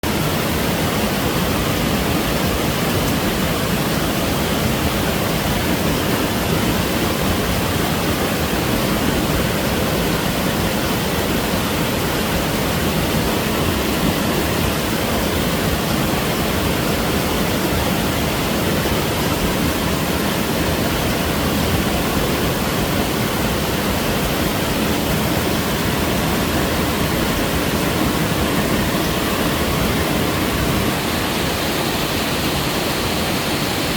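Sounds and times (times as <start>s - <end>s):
waterfall rushing over rocks: 0.0s - 33.9s.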